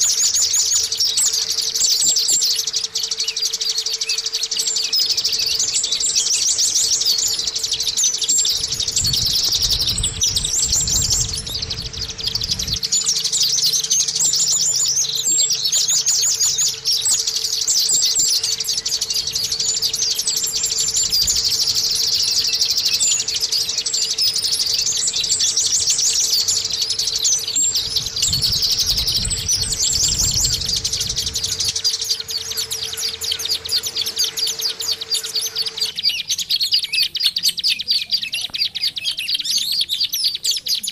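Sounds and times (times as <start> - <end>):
bird twittering chirps and trills: 0.0 - 40.9.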